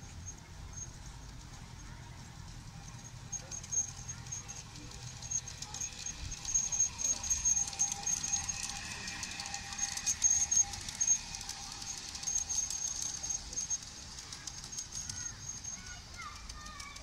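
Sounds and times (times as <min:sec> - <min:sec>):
model train wheels clicking: 0:00.0 - 0:17.0
thin high whine: 0:02.8 - 0:17.0.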